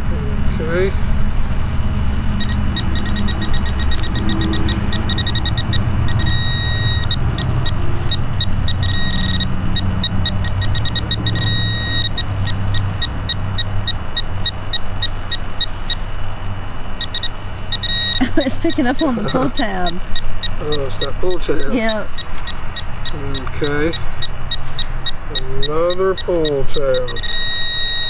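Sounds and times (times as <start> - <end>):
metal detector beeping: 0.0 - 16.3, 16.9 - 28.0
steady low rumble: 0.0 - 27.7.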